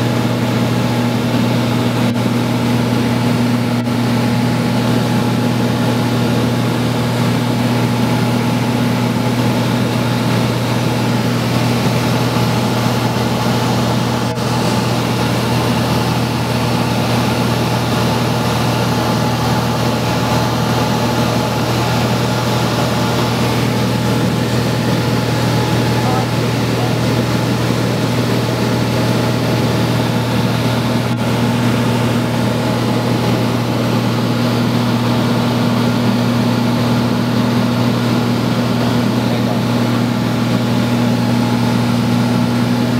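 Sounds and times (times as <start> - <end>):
small aircraft engine drone: 0.0 - 42.9.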